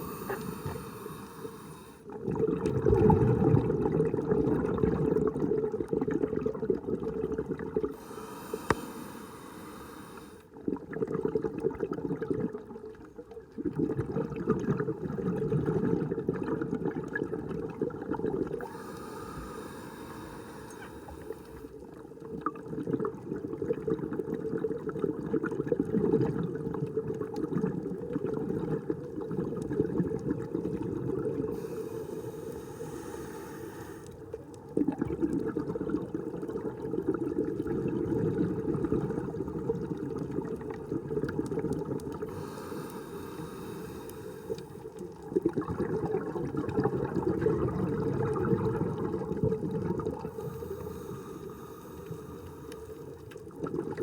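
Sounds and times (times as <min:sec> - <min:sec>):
water rushing and bubbling: 0:00.0 - 0:12.8, 0:13.5 - 0:54.0.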